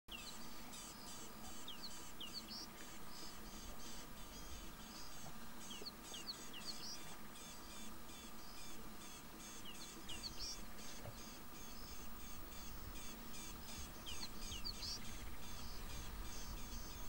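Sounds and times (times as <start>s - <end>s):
repeating high bird chirp: 0.1s - 17.0s.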